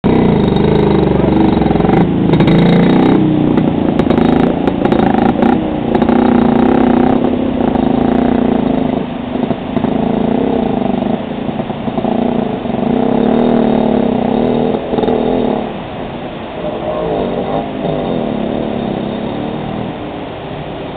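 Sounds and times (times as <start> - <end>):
motorcycle engine revving: 0.0 - 20.4
rushing water: 0.0 - 20.9.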